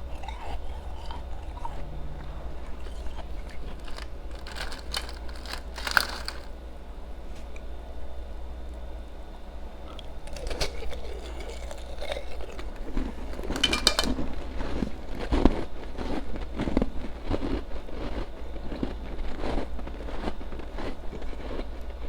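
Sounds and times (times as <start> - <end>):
ice being chewed: 0.0 - 6.6, 9.9 - 22.0.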